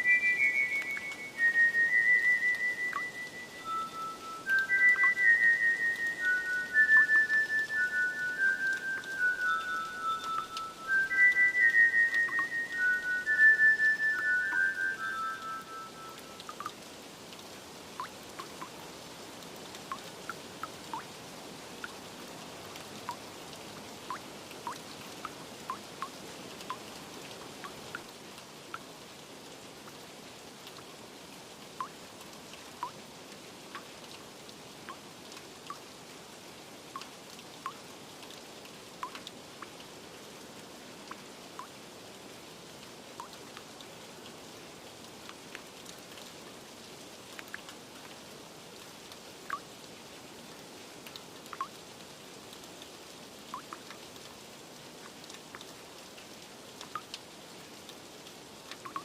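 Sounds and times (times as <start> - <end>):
raindrops plinking on a surface: 0.0 - 59.0
steady rain: 0.0 - 59.0.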